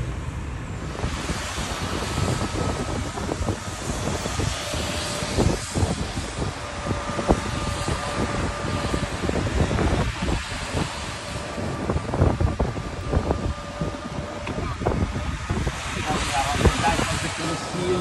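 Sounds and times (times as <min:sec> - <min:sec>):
faint steady whine: 0:00.0 - 0:18.0
golf cart rumble: 0:00.0 - 0:18.0
wind buffeting microphone: 0:00.0 - 0:18.0.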